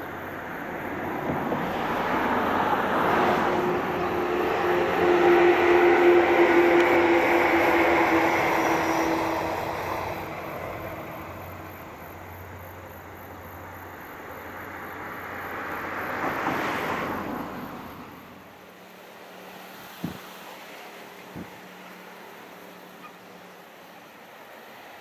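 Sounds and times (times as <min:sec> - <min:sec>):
train running on rails: 0:00.0 - 0:25.0.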